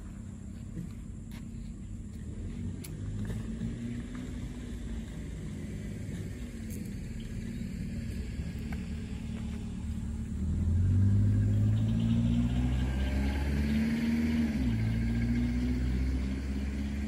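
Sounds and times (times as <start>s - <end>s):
motor vehicle engine rumble: 0.0s - 17.0s.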